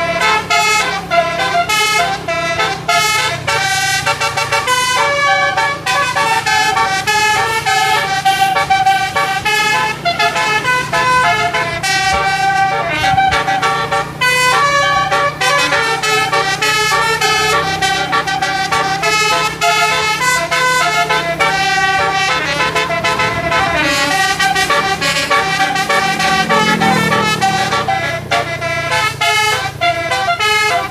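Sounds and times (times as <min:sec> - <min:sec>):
bus air horn melody: 0:00.0 - 0:30.9
bus engine hum: 0:00.0 - 0:30.9.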